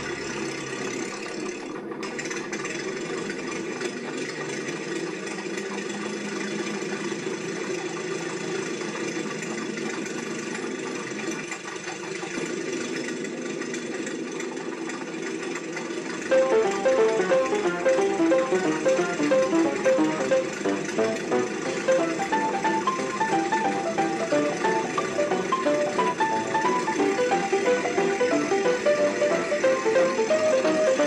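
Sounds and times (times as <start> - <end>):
busy street rumble and clatter: 0.0 - 31.0
old motor engine running: 0.0 - 31.0.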